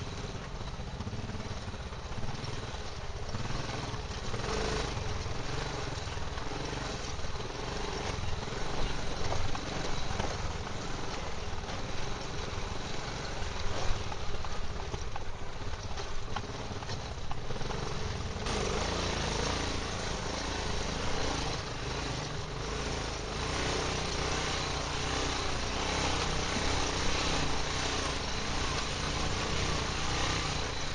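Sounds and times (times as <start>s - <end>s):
quad engine running: 0.0s - 30.9s.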